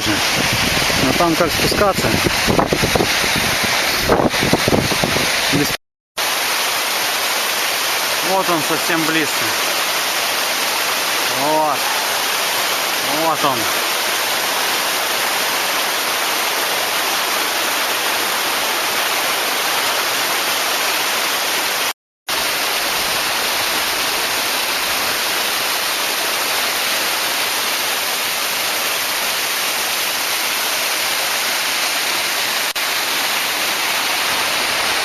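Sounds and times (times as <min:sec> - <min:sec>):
waterfall pouring: 0:00.0 - 0:35.0.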